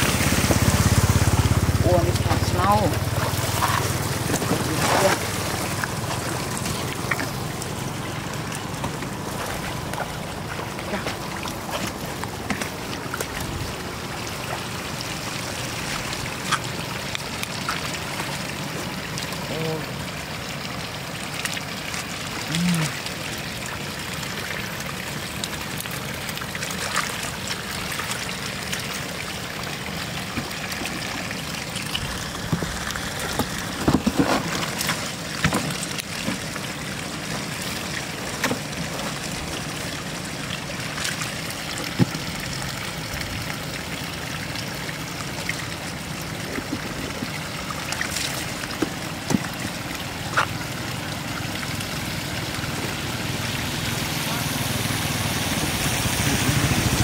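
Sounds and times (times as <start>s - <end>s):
floodwater running: 0.0s - 57.0s.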